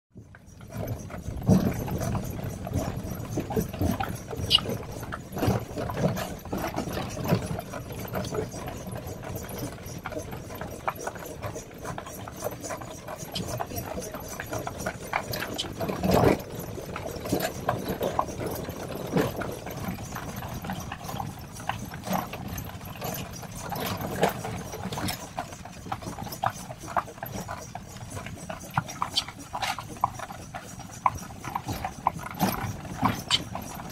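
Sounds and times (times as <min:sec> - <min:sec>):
horse hooves clip-clopping: 0:00.2 - 0:33.9.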